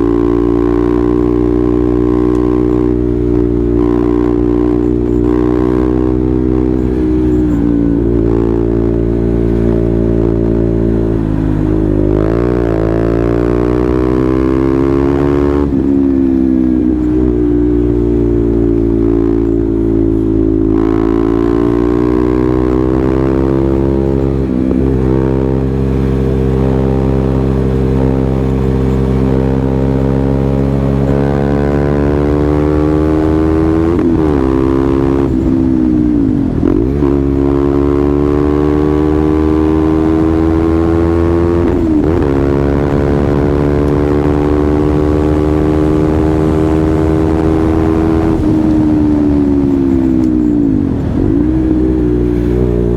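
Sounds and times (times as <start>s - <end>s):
motorcycle engine under load: 0.0s - 52.9s.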